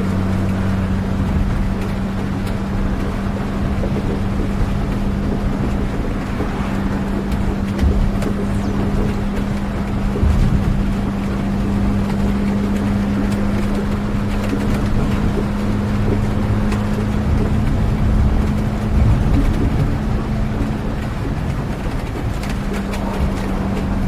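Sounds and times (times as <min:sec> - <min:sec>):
constant low hum: 0:00.0 - 0:24.0
low rumble: 0:00.0 - 0:24.0
steady rain: 0:00.0 - 0:24.0.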